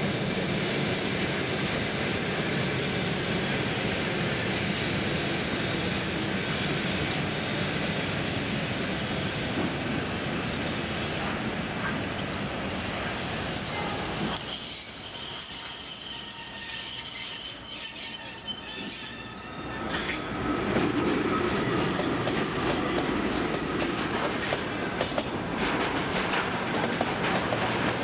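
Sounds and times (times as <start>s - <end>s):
freight train rolling past: 0.0s - 28.0s.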